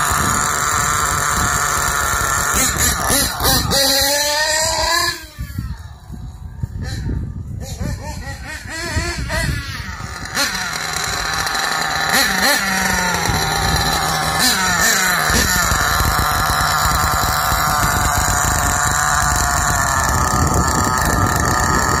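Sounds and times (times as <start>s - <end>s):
small nitro engine revving and idling: 0.0s - 22.0s.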